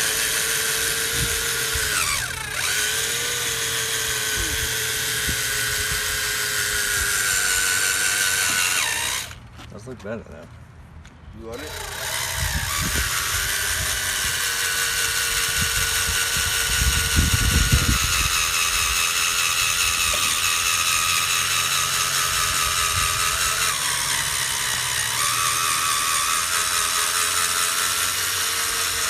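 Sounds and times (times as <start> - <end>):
electric drill motor whining: 0.0 - 9.4, 11.5 - 29.0.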